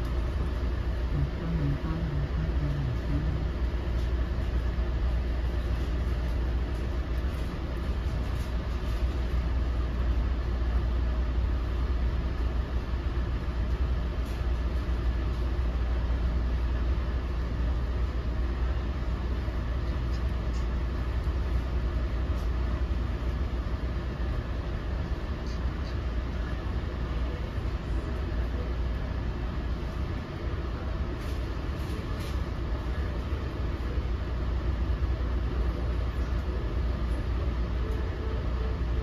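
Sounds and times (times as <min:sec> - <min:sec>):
train coach low rumble: 0:00.0 - 0:39.0.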